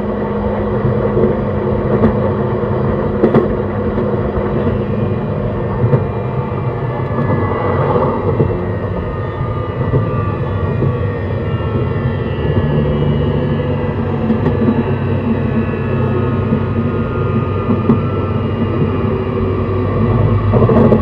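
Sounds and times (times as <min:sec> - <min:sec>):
electric motor whine: 0:00.0 - 0:21.0
rail clacks: 0:00.0 - 0:21.0
train wheels rumbling on rails: 0:00.0 - 0:21.0.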